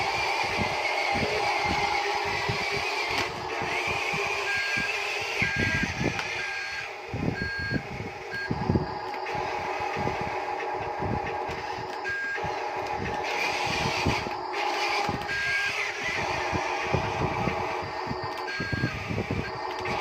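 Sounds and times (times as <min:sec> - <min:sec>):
mechanical whir: 0:00.0 - 0:20.0
rising whine: 0:00.0 - 0:20.0
reversing beeper beeps: 0:00.8 - 0:10.6, 0:11.8 - 0:12.6, 0:13.3 - 0:20.0.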